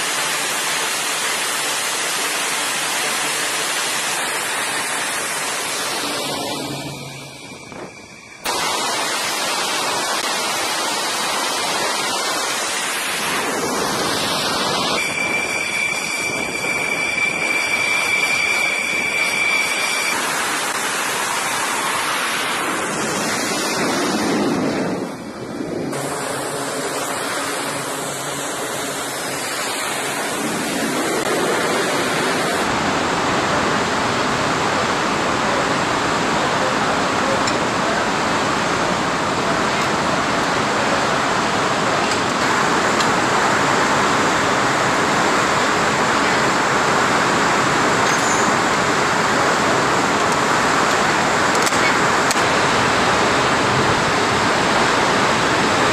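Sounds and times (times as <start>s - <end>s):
jet engines roaring: 0.0s - 55.9s
steady high whine: 0.0s - 55.9s.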